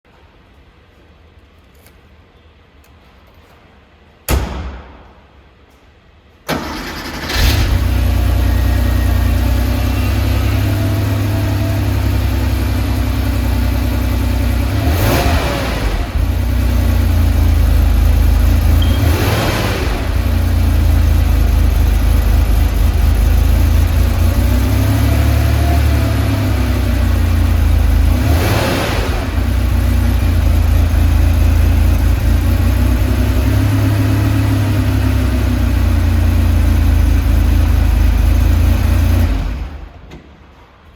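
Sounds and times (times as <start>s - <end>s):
car engine cranking and idling: 6.4s - 40.4s.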